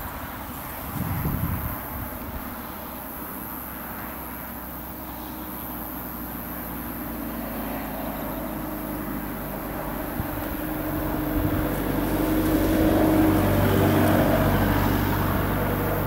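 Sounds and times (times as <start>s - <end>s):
distant engine humming: 0.0s - 16.0s.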